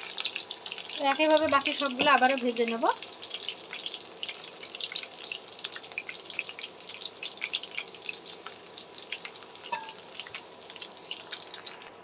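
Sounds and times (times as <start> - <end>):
deep-frying sizzle with crackles: 0.0 - 12.0.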